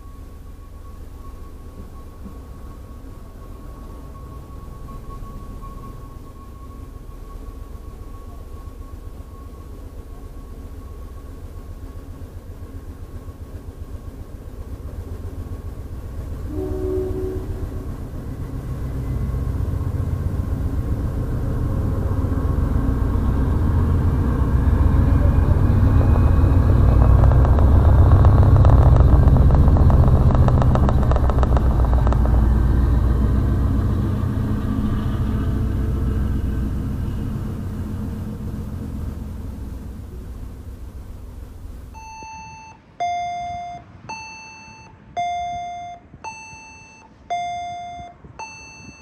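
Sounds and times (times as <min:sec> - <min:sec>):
passenger train rumble: 0:00.0 - 0:42.1, 0:47.0 - 0:48.5
train wheels clacking: 0:00.7 - 0:41.6.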